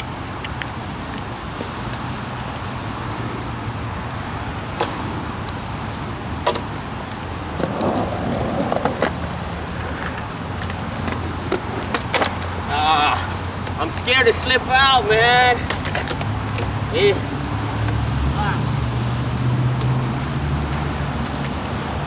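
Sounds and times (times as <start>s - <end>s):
road traffic hum: 0.0s - 22.0s.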